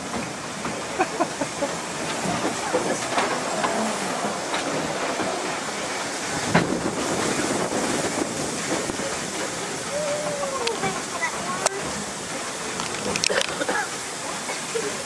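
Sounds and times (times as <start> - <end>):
steady train rumble: 0.0 - 15.0
wheels clattering over rails: 0.0 - 15.0.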